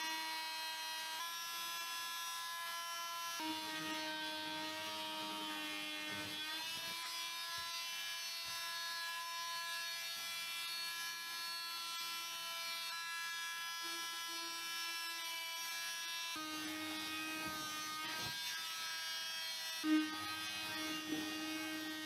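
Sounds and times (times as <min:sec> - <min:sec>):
oscillating multi-tool buzzing: 0:00.0 - 0:22.0.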